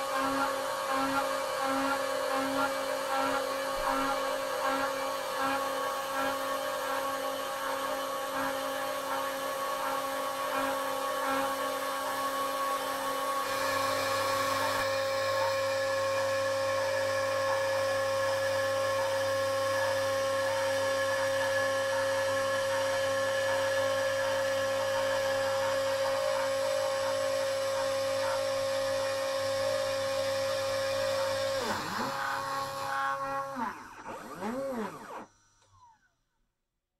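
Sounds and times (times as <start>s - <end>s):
router spindle motor whining: 0.0s - 36.1s.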